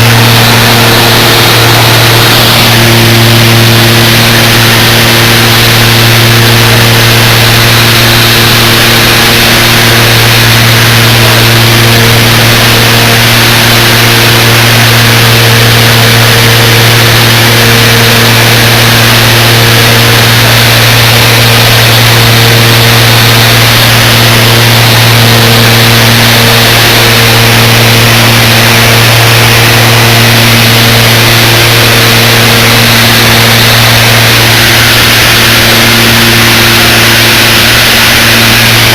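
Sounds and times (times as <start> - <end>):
engine drone: 0.0 - 38.9.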